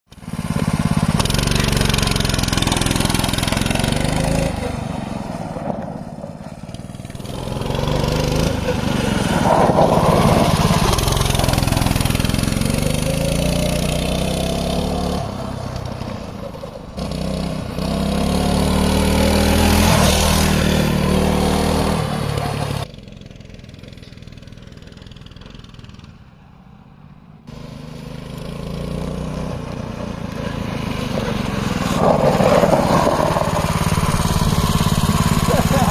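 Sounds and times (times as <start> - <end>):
mini bike engine revving: 0.1 - 16.3, 17.0 - 26.3, 27.5 - 35.9.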